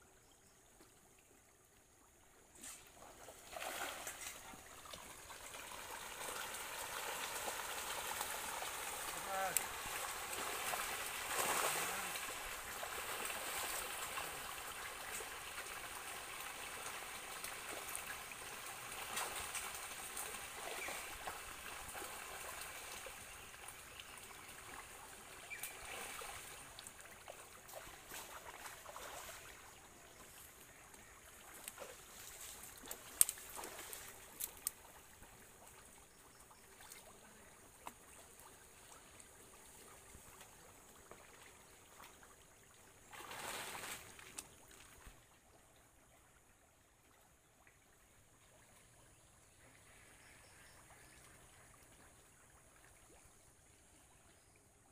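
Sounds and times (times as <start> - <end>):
fish splashing and churning water: 1.0 - 54.8.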